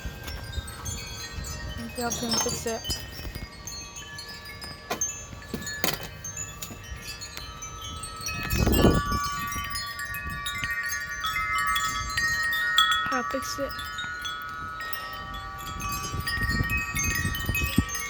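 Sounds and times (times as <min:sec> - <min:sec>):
strong wind: 0:00.0 - 0:18.0
wind chimes ringing: 0:00.0 - 0:18.0.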